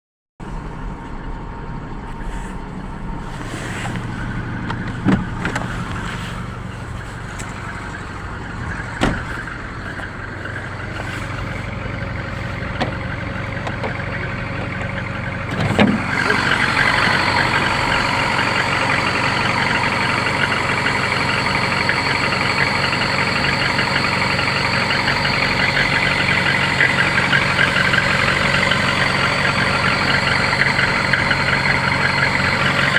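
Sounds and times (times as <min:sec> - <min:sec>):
car engine running: 0:00.4 - 0:32.9
engine knocks: 0:01.0 - 0:32.9.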